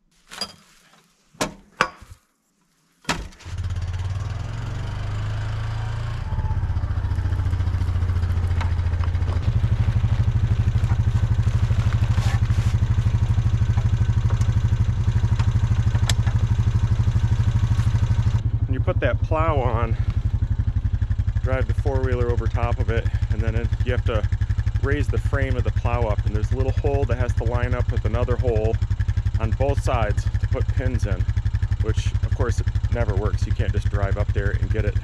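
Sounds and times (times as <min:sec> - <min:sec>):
atv engine running: 0:03.4 - 0:35.0
snowplow blade clanking: 0:03.4 - 0:35.0.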